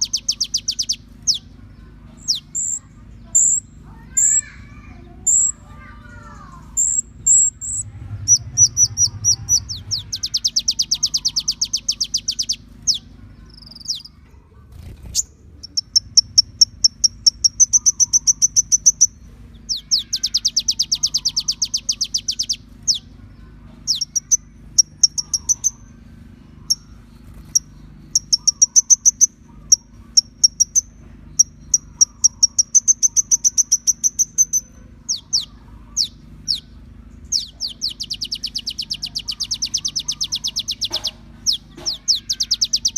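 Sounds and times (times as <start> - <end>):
high bird chirps: 0.0 - 14.2, 14.8 - 42.9
faint low hum: 0.0 - 42.9
rapid bird trills: 0.0 - 42.9.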